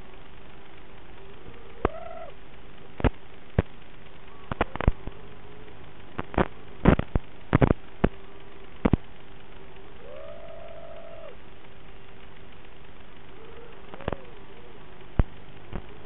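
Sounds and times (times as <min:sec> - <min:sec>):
faint hum: 0:00.0 - 0:16.0
sharp crackles and pops: 0:00.0 - 0:16.0
static hiss: 0:00.0 - 0:16.0.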